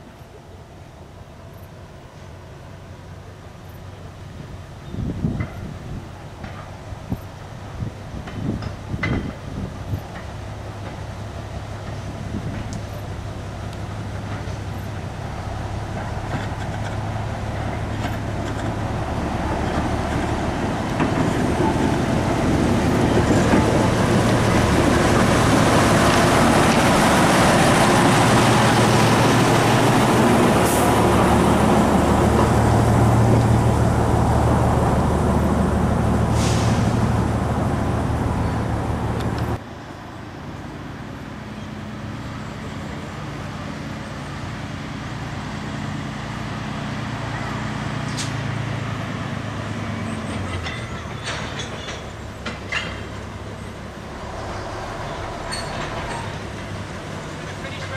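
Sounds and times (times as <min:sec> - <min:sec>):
diesel locomotive engine running: 0:00.0 - 0:57.9.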